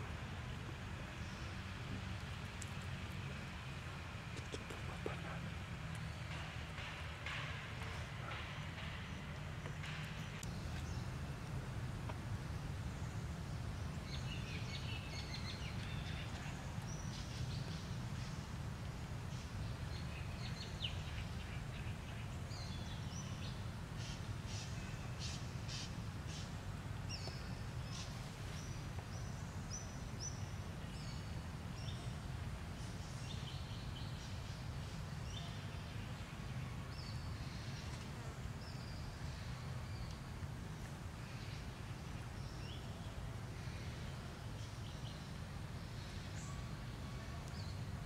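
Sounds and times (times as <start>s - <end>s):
low outdoor rumble: 0.0s - 48.0s.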